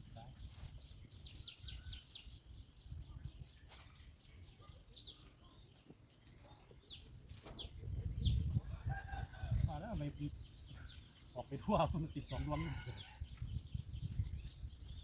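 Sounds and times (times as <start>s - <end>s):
bird chirping: 0.1s - 15.0s.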